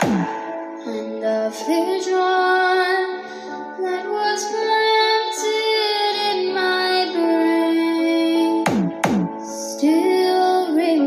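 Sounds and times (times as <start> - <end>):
backing track music: 0.0 - 10.4.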